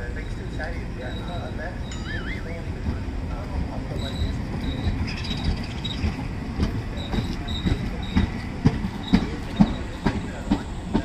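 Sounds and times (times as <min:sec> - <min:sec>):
high wheel squeals: 0:00.0 - 0:02.9, 0:03.8 - 0:10.9
train rumble: 0:00.0 - 0:11.0
train wheels clacking over rail joints: 0:00.0 - 0:11.0.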